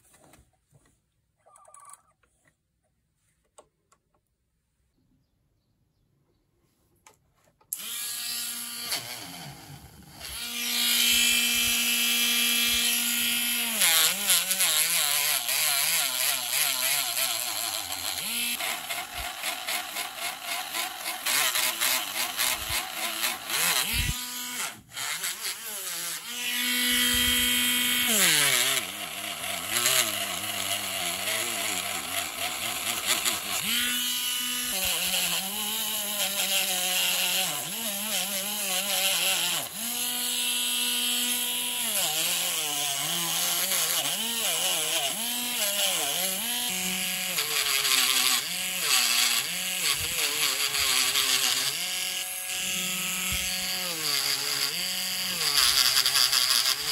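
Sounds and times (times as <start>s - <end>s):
rotary tool motor whine: 7.7s - 56.9s.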